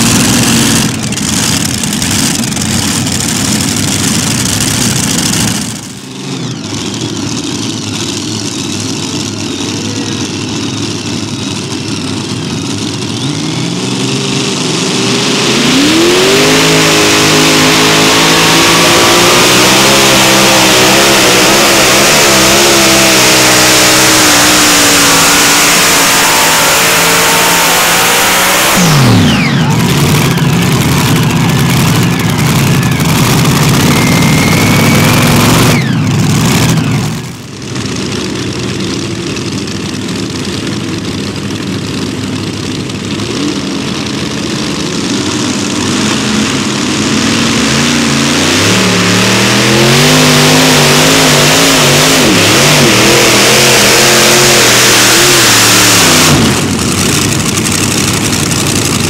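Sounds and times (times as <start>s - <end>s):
pulling tractor engine at full throttle: 0.0s - 59.0s
tractor engine idling and surging: 0.0s - 59.0s.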